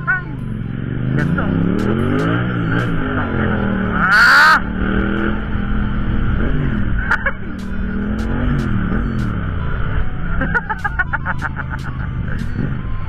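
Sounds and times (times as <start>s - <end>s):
motorcycle engines droning: 0.0s - 13.0s
road noise: 0.0s - 13.0s.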